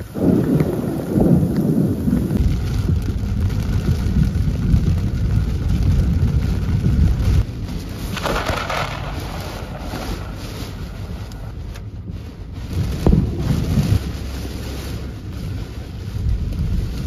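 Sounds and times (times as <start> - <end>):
heavy rain on car: 0.0 - 17.0
road and wind rumble: 0.0 - 17.0
thunderclap: 0.0 - 17.0.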